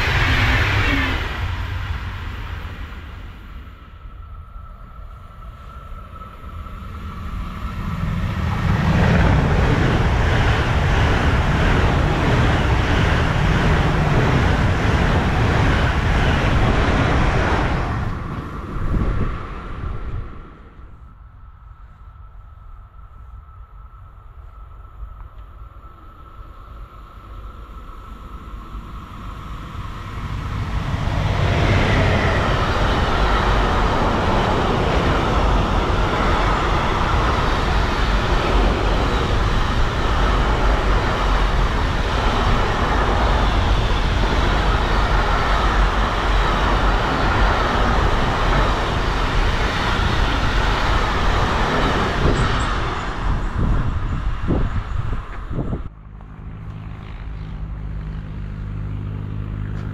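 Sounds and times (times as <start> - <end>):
freight train rumbling and rattling: 0.0 - 59.9.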